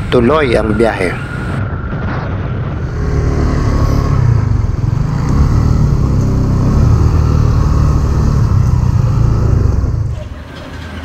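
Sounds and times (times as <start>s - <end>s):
wind rumble: 0.0s - 11.0s
motorcycle engine: 1.7s - 11.0s.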